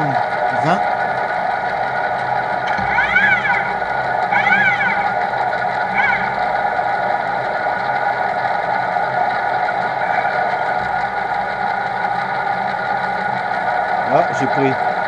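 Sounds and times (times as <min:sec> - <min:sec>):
milling machine whirring: 0:00.0 - 0:15.0.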